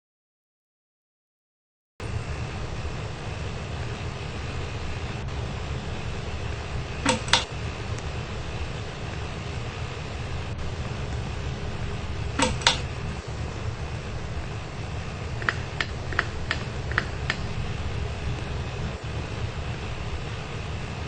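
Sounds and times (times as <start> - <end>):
ceiling fan hum and whoosh: 2.0 - 21.0.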